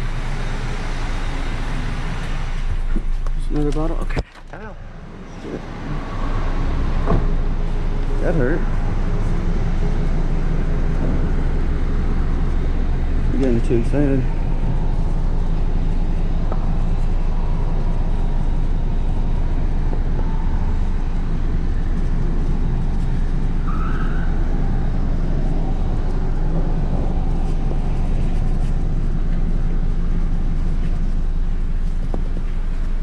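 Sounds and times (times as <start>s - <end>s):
loud low rumble: 0.0s - 32.8s.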